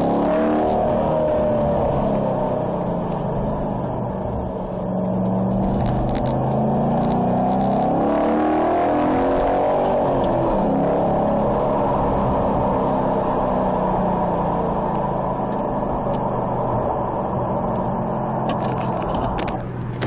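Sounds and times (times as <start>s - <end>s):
car engine drone: 0.0s - 20.0s
road noise: 0.0s - 20.0s.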